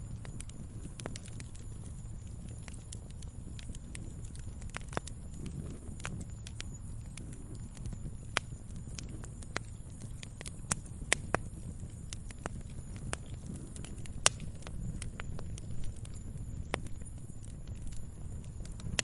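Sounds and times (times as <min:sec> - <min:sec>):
log fire crackling: 0:00.0 - 0:19.0
low rumble of flame: 0:00.0 - 0:19.0.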